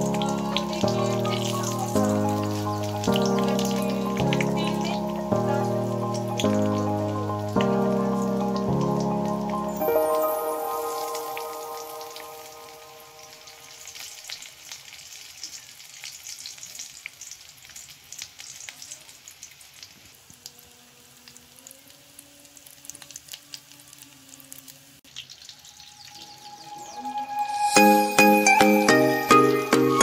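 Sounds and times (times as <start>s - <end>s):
hot oil sizzling and popping: 0.0s - 30.0s.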